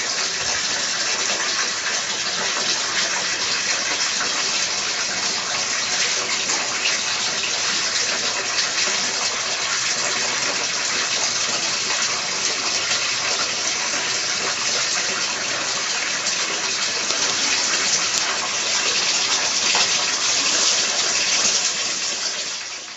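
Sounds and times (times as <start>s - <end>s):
water splashing into pond: 0.0s - 22.9s.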